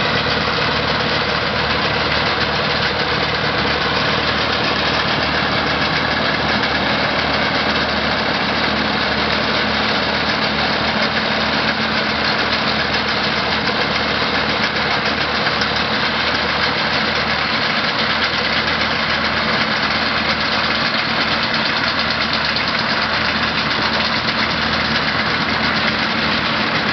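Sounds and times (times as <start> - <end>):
binder machinery clattering: 0.0 - 26.9
tractor engine running: 0.0 - 26.9.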